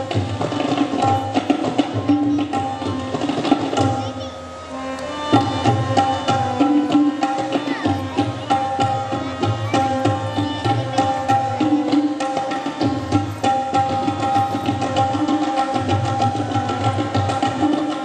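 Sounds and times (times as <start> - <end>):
tabla drumming: 0.0 - 18.0.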